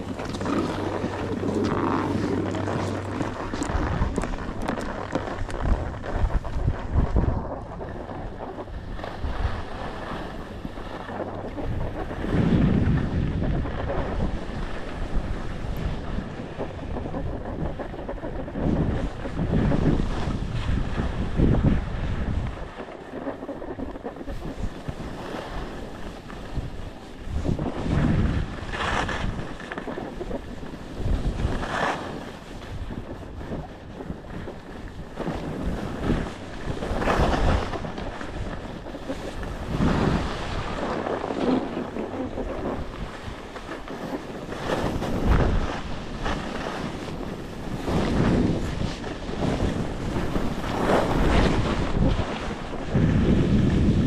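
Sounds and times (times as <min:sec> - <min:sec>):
skis scraping over snow: 0:00.0 - 0:54.0
wind buffeting microphone: 0:00.0 - 0:54.0.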